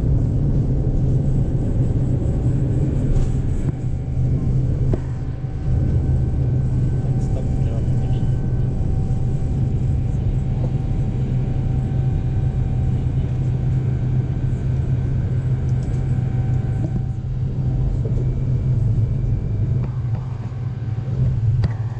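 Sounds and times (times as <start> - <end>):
airplane cabin rumble during takeoff: 0.0 - 21.9
faint steady tones: 0.2 - 21.9.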